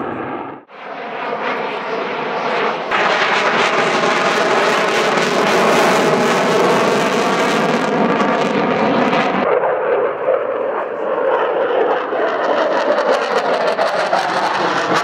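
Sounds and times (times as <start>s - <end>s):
loud jet roar: 0.0s - 15.0s.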